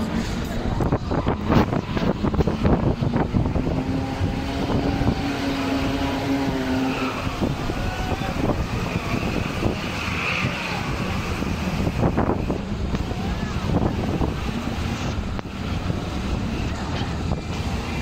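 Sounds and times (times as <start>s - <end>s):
roller coaster train rumbling: 0.0s - 18.0s.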